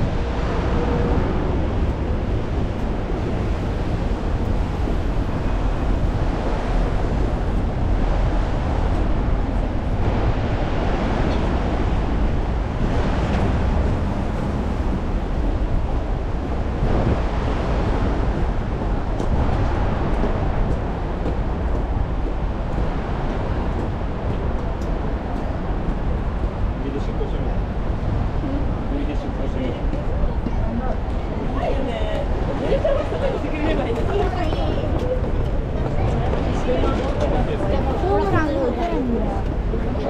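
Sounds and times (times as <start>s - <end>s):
rain: 0.0s - 40.0s
street noise: 0.0s - 40.0s
wind buffeting microphone: 0.0s - 40.0s.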